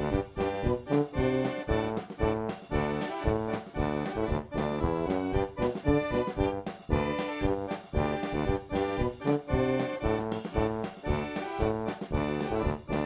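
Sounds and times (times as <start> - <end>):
bouncy accordion music: 0.0 - 13.0.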